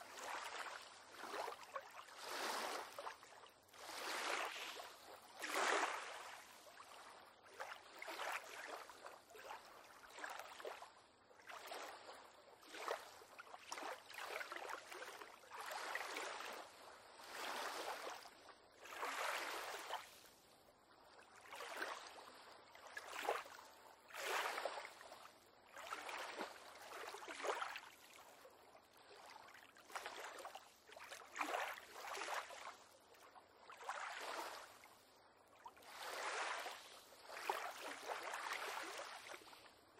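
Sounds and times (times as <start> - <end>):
small waves lapping against pier: 0.0 - 39.9.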